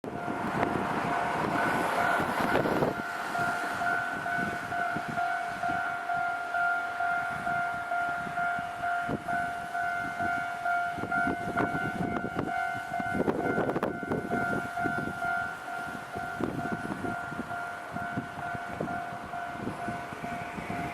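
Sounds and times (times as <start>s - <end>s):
level crossing warning bell: 0.0s - 20.9s
rushing noise: 0.0s - 20.9s.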